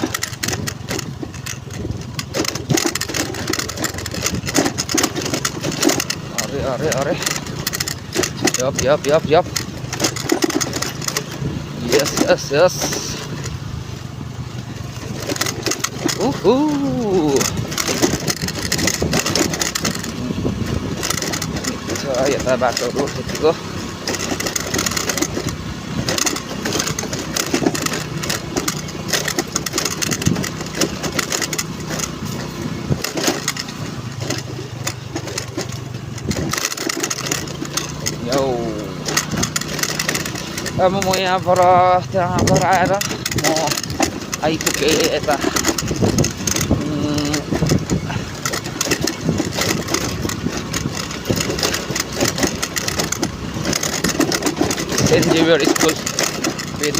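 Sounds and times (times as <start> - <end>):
rattling knocks and crunches: 0.0 - 56.9
small engine running: 0.0 - 56.9.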